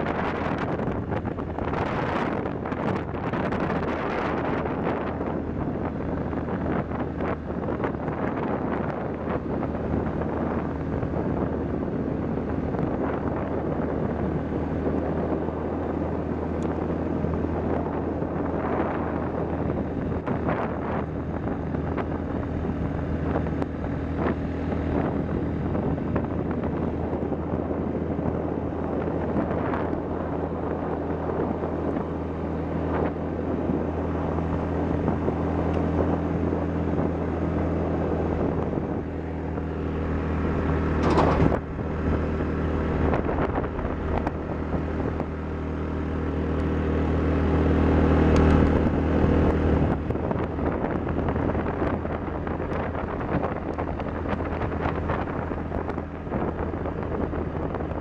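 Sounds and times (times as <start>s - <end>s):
atv engine running: 0.0s - 58.0s
wind buffeting microphone: 0.0s - 58.0s.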